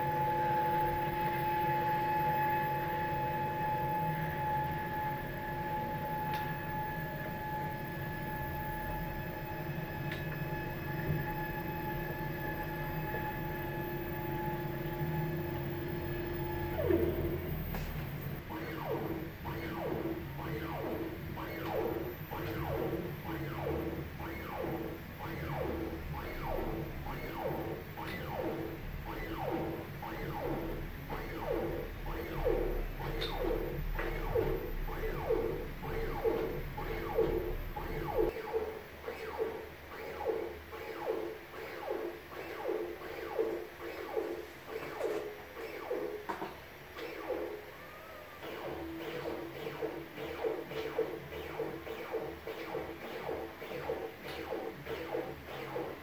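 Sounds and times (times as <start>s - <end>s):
short rising motor whines: 0.0s - 46.2s
stepper motor whine: 0.0s - 46.4s, 48.4s - 56.0s.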